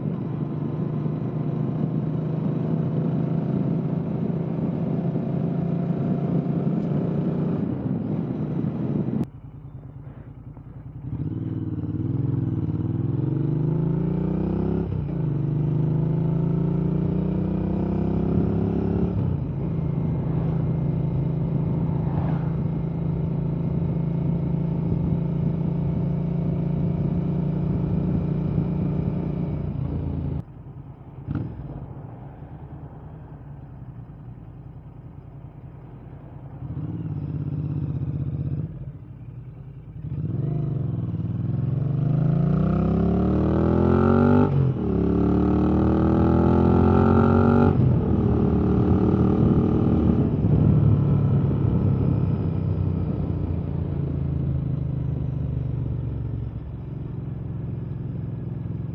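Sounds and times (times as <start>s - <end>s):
motorcycle engine revving: 0.0s - 9.3s, 10.7s - 30.4s, 31.2s - 32.0s, 35.4s - 58.9s.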